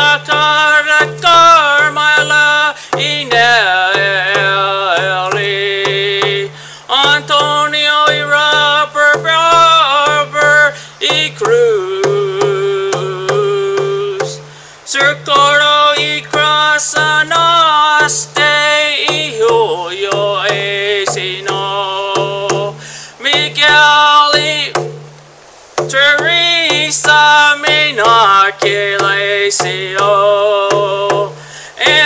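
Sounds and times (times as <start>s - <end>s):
man singing chant-like melody: 0.0s - 25.0s, 25.8s - 32.0s
low drum beat: 0.0s - 32.0s.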